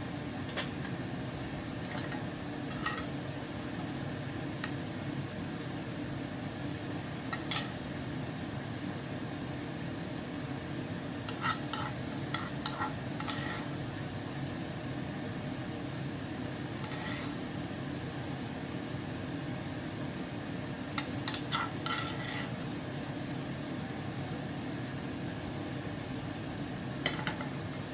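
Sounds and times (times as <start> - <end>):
low background hum: 0.0 - 27.9.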